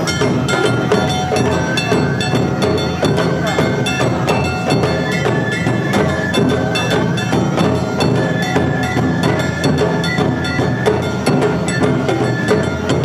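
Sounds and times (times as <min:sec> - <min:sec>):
bamboo flute high notes: 0:00.0 - 0:13.0
hand gong beating: 0:00.0 - 0:13.0
taiko drums beating: 0:00.0 - 0:13.0.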